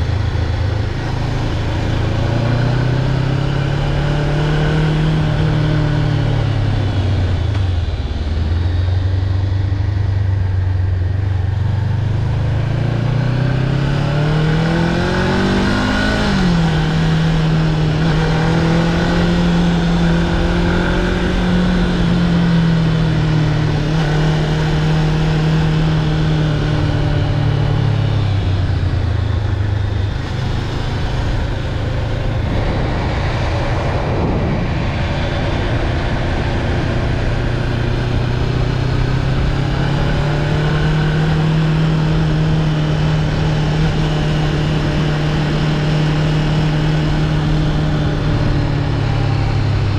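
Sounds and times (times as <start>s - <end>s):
motorcycle engine: 0.0s - 49.9s
wind and road noise: 0.0s - 49.9s.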